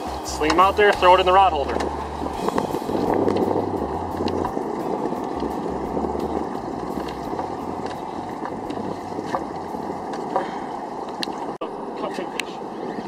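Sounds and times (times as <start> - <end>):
water lapping against boat: 0.0 - 11.6
wind buffeting microphone: 0.0 - 13.0.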